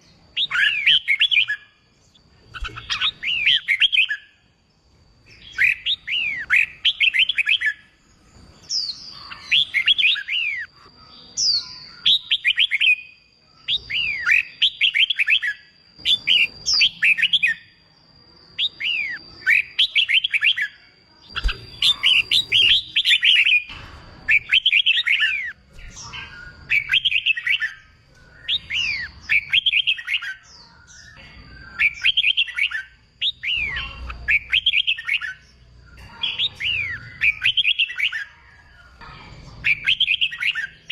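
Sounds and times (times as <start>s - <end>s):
bird singing whistled notes: 0.0s - 23.7s, 24.3s - 39.0s, 39.6s - 40.9s
faint steady high tone: 0.0s - 37.2s.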